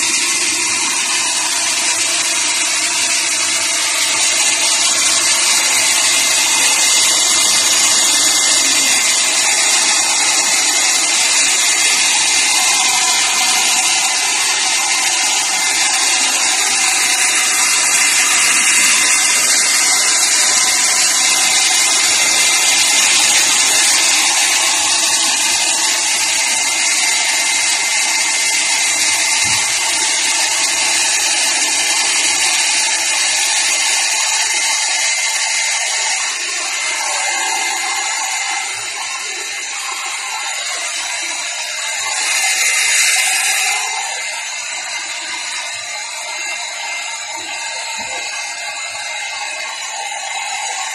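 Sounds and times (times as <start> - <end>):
hair dryer running: 0.0 - 50.9.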